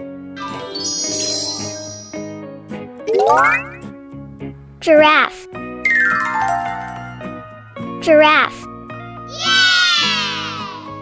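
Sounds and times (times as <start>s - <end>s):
children's background music: 0.1s - 11.0s.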